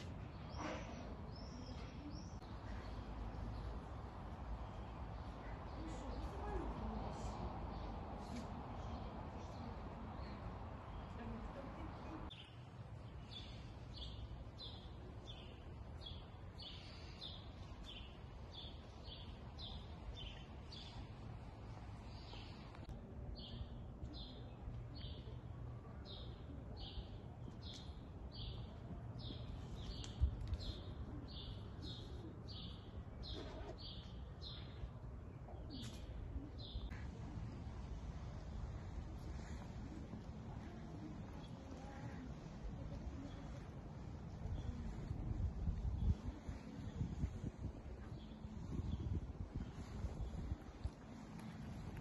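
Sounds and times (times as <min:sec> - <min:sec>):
low outdoor rumble: 0:00.0 - 0:52.0
songbird chirping: 0:00.0 - 0:52.0.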